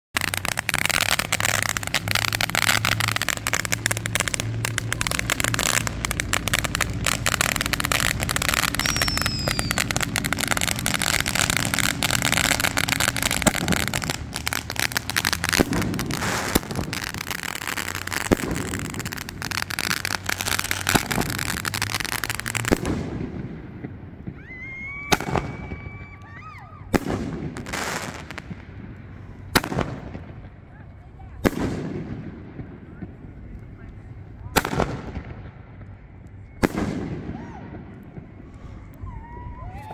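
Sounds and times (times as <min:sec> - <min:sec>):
fireworks crackling: 0:00.1 - 0:39.9
loud firework bangs: 0:00.2 - 0:26.1, 0:26.9 - 0:30.6, 0:31.4 - 0:33.3, 0:34.5 - 0:35.9, 0:36.6 - 0:38.4.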